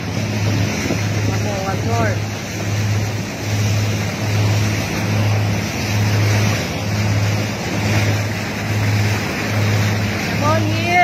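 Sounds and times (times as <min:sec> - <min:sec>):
boat engine droning: 0:00.0 - 0:11.0
water rushing along hull: 0:00.0 - 0:11.0.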